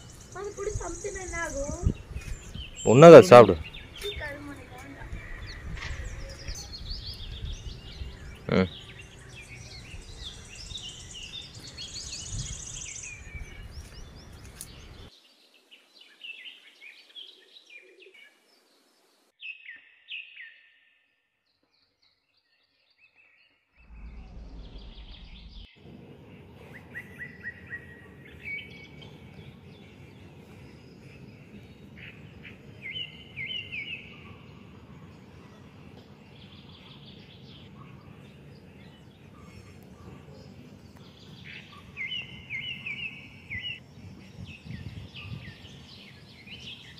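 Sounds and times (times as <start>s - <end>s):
outdoor background noise: 0.0s - 20.6s, 21.3s - 46.9s
small birds chirping: 0.0s - 20.7s, 21.5s - 46.9s.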